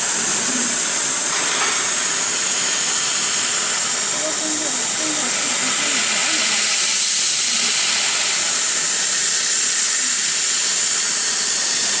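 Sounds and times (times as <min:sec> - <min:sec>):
laser cutter gas jet hissing: 0:00.0 - 0:12.0.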